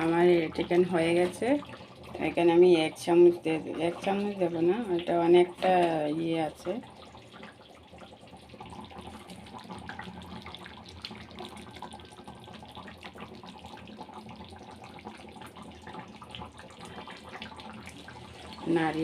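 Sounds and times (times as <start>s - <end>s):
curry bubbling in a pot: 0.0s - 19.0s.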